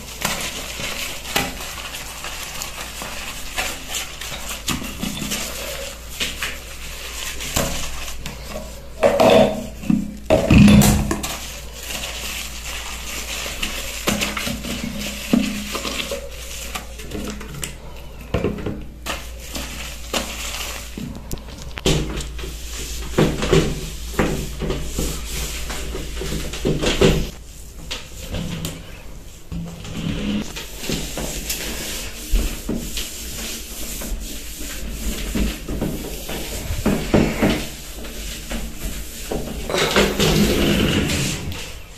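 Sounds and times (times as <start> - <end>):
cloth wiping glass and tiles: 0.0 - 41.9
sponge scrubbing washbasin: 0.0 - 41.9.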